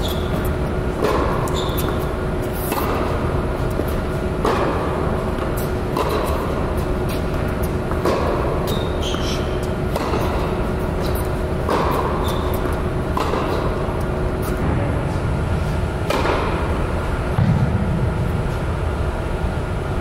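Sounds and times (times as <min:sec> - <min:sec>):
tennis balls struck and bouncing: 0:00.0 - 0:14.7, 0:16.0 - 0:17.8.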